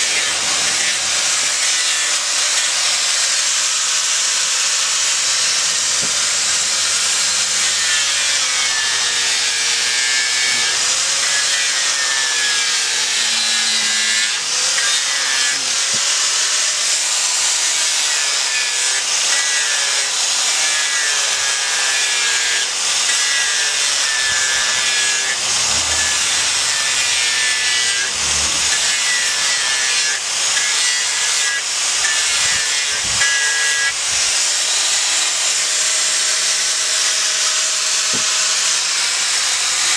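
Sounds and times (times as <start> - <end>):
angle grinder sanding wood: 0.0 - 39.9.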